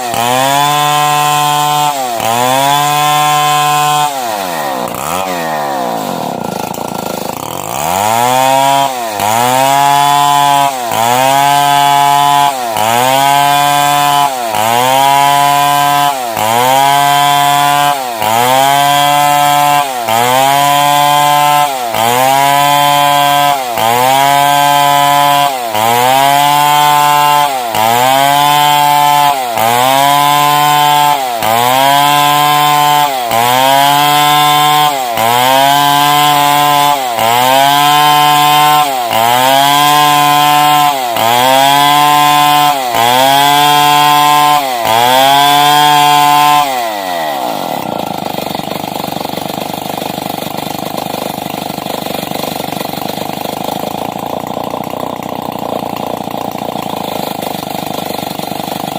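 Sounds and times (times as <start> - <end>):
chainsaw cutting timber: 0.0 - 58.9.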